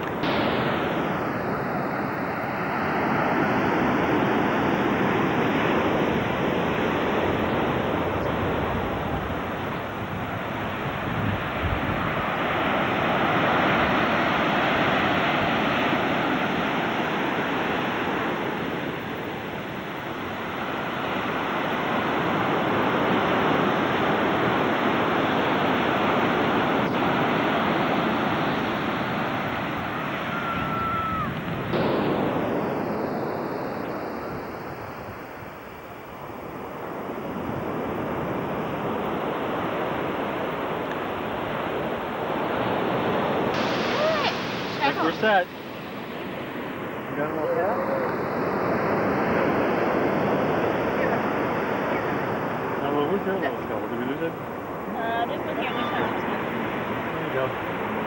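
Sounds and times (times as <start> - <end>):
ocean surf breaking: 0.0 - 58.0.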